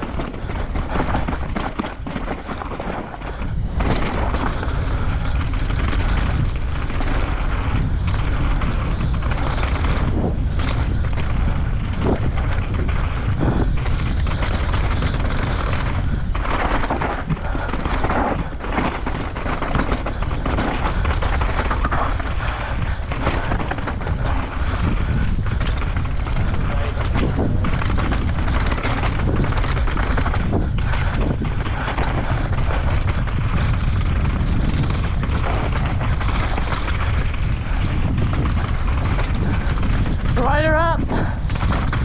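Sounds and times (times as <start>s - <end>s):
bike knocking and rattling: 0.0s - 42.0s
wind rumble on microphone: 0.0s - 42.0s.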